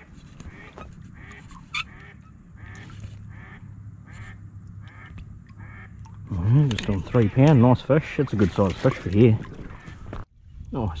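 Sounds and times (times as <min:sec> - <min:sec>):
low steady rumble: 0:00.0 - 0:08.8
ducks quacking: 0:00.0 - 0:10.2.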